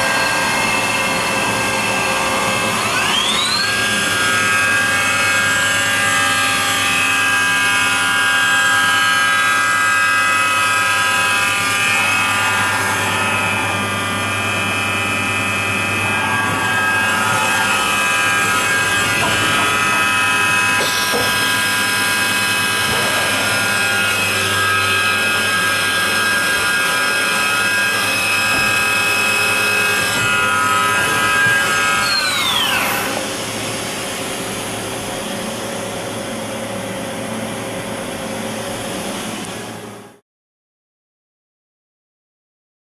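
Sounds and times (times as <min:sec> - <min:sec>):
machine spindle whine: 0:00.0 - 0:40.2.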